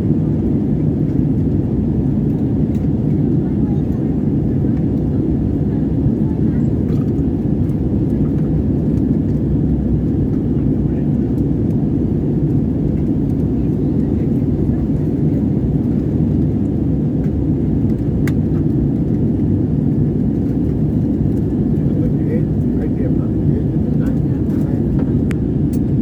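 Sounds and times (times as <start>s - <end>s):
airliner engines and airflow rumble: 0.0s - 26.0s.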